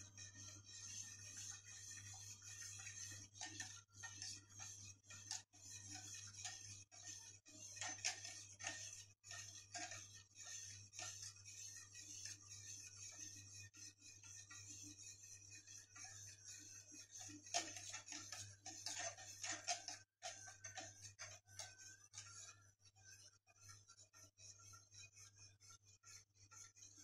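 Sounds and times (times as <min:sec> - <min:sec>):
whisk scraping metal pot: 0:00.0 - 0:22.6, 0:26.0 - 0:27.0.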